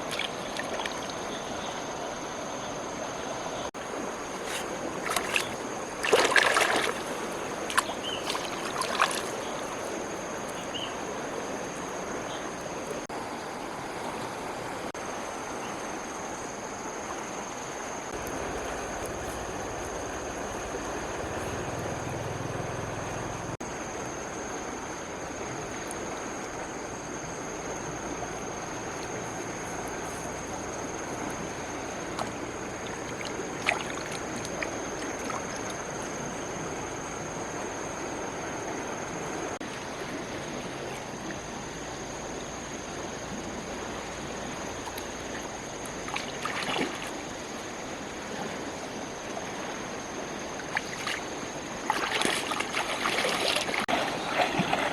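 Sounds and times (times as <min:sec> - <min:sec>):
water splashes: 0:00.0 - 0:02.2, 0:03.7 - 0:13.1, 0:18.1 - 0:54.9
water rushing: 0:00.0 - 0:54.9.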